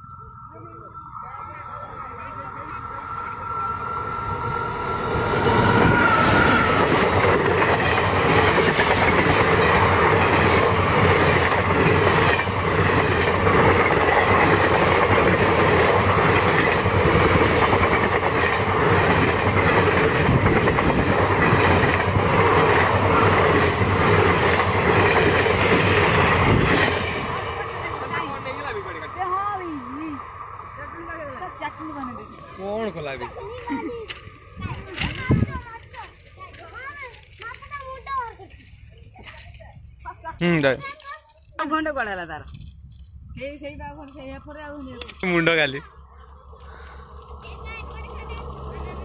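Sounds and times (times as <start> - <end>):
train wheels clattering: 2.6 - 29.5, 31.8 - 45.5.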